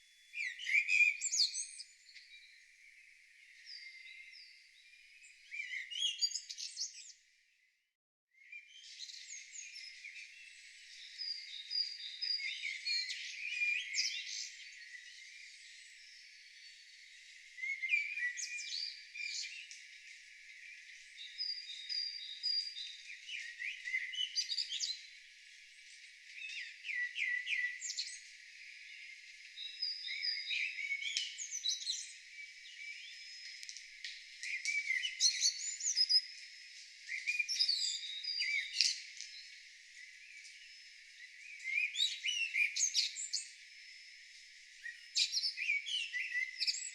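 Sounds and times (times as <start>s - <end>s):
songbirds singing: 0.0s - 46.9s.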